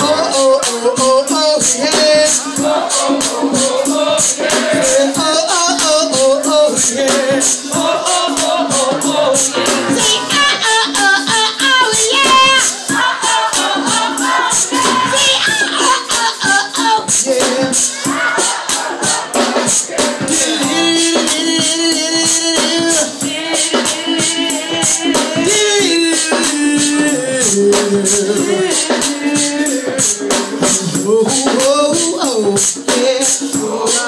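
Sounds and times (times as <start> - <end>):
person singing: 0.0 - 18.5, 20.2 - 34.0
live band music: 0.0 - 34.0.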